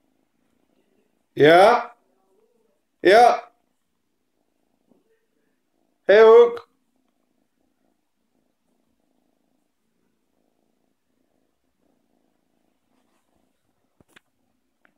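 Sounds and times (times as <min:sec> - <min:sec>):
kitten purring: 0:00.0 - 0:14.9.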